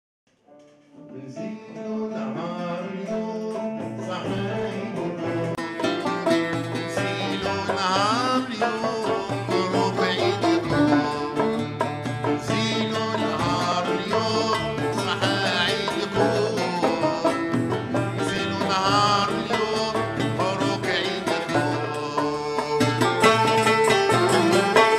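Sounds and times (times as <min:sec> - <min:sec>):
band with plucked strings: 0:00.5 - 0:24.9
man singing: 0:01.0 - 0:24.9.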